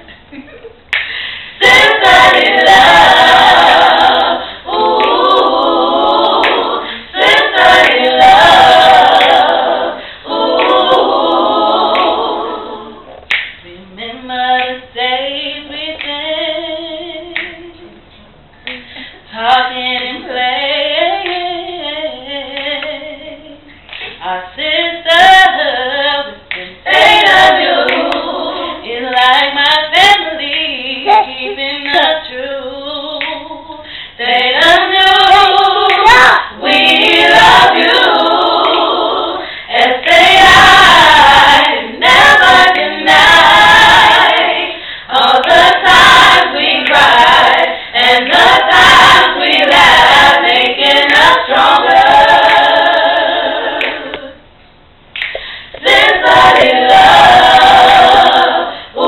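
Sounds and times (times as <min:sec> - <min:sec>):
women singing a cappella: 0:00.0 - 0:54.6, 0:55.2 - 0:59.0.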